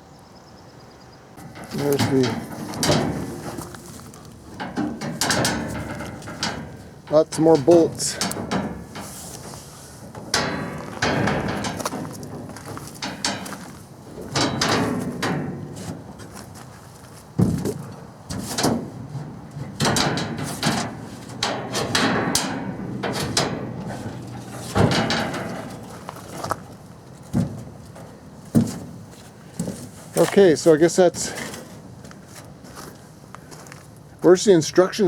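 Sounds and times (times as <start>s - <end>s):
knocks and clunks of parts handled: 1.4s - 30.6s
rustling: 1.4s - 34.0s.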